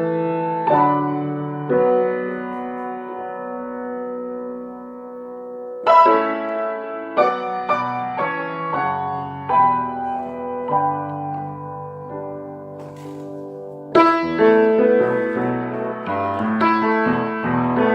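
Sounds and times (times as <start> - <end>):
slow piano chords: 0.0 - 17.9.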